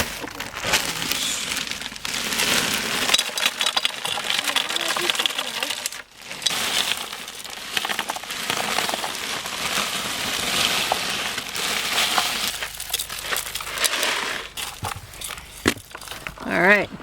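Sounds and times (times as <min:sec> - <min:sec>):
ice and rock salt crunching: 0:00.0 - 0:17.0.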